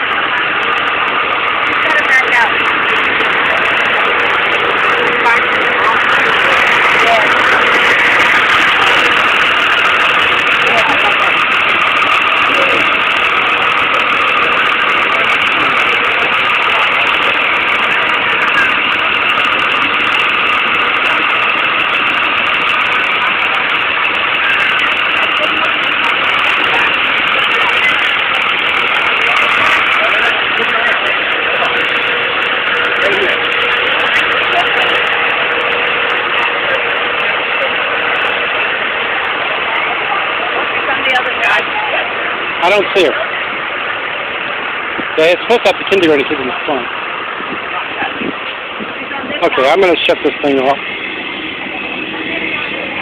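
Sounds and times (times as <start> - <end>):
bus engine idling: 0.0 - 53.0.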